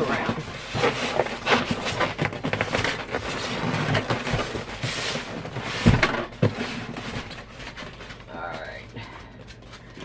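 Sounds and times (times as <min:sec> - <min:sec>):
rustling of packaging: 0:00.0 - 0:10.0.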